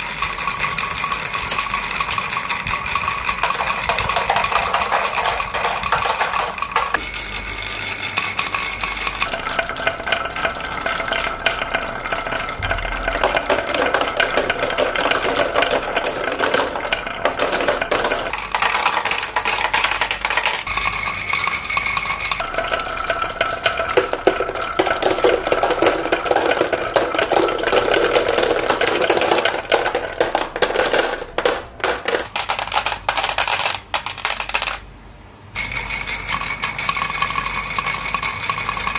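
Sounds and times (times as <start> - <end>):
marbles clattering down wooden tracks: 0.0 - 34.8, 35.6 - 38.9.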